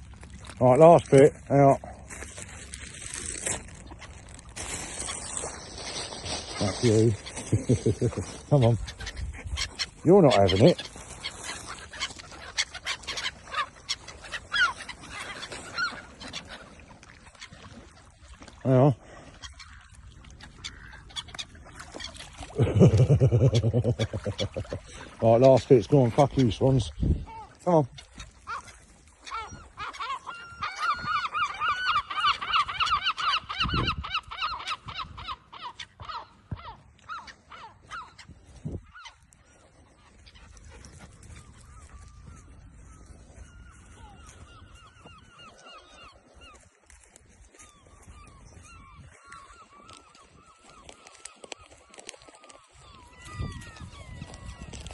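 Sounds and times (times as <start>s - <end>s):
ducks clucking calls: 3.2s - 54.9s
waterfowl honking: 3.2s - 54.9s.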